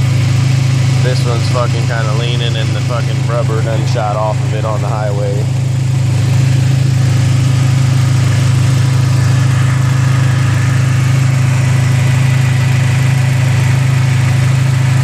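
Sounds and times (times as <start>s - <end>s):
car engine idling: 0.0s - 15.0s
radiator cooling fans running: 0.0s - 15.0s.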